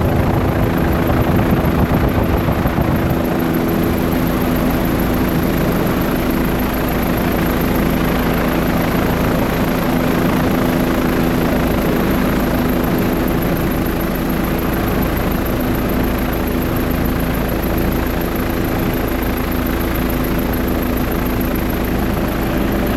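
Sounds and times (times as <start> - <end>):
helicopter engine and rotor drone: 0.0 - 22.9.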